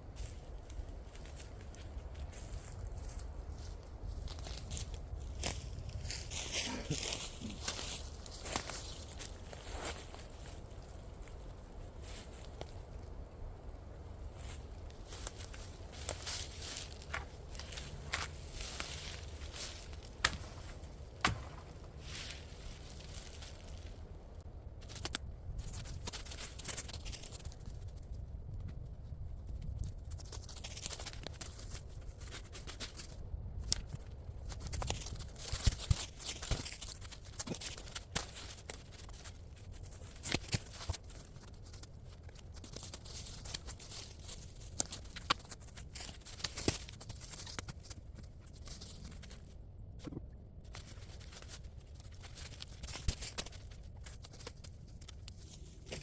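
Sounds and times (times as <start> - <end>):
rustling and crackling: 0.2 - 13.2, 14.2 - 56.0.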